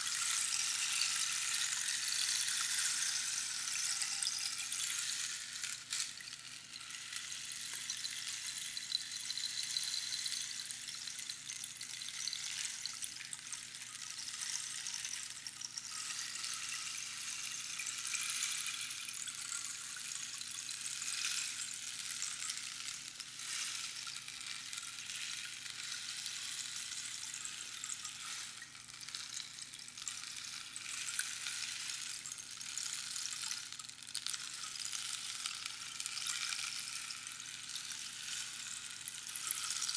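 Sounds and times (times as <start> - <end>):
rainstick trickling hiss: 0.0 - 39.9.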